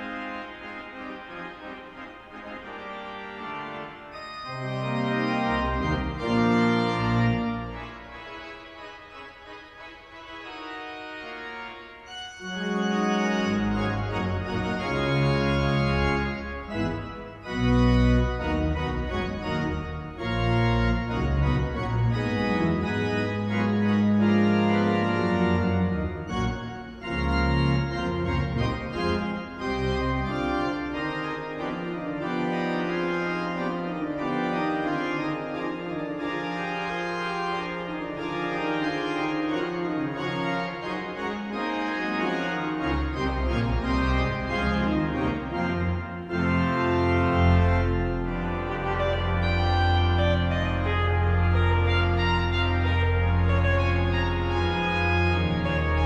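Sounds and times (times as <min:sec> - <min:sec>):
pipe organ fanfare: 0:00.0 - 0:56.0.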